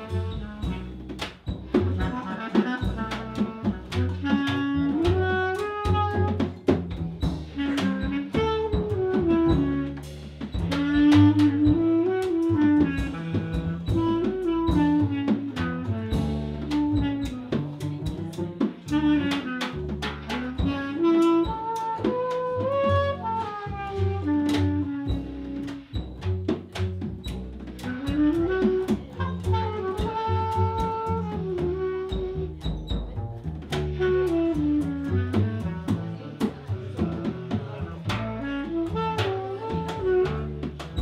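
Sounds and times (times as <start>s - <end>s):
bass clarinet melody: 0.0s - 41.0s
drum kit and cymbals: 0.0s - 41.0s
low bass line: 0.0s - 41.0s.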